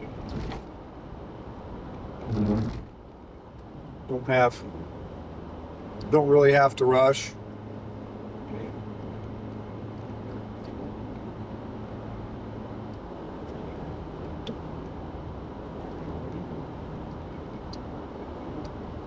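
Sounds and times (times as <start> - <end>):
tyres rumbling on road: 0.0 - 7.5, 10.2 - 19.0
engine hum: 0.0 - 19.0.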